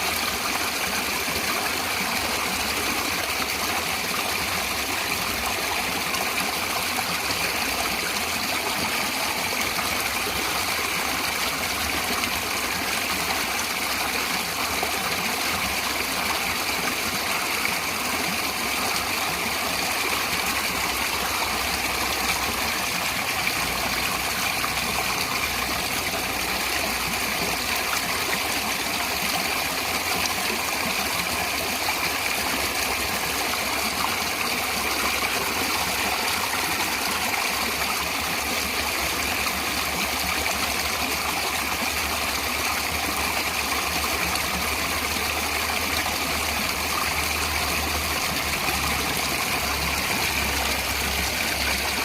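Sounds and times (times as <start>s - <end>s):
running water flowing: 0.0s - 52.0s.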